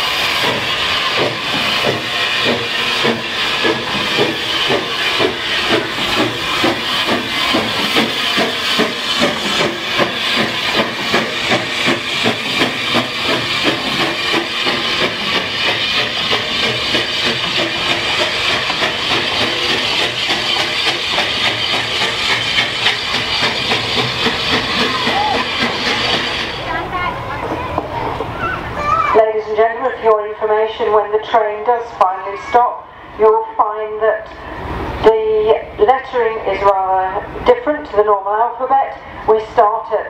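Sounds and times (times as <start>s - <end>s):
steam hissing: 0.0s - 40.0s
steam locomotive chuffing: 0.0s - 40.0s.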